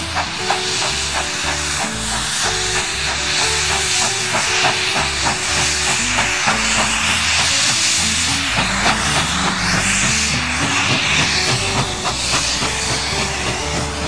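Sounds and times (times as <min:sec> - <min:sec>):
background music with a beat: 0:00.0 - 0:14.0
steam locomotive hissing steam: 0:00.0 - 0:14.0.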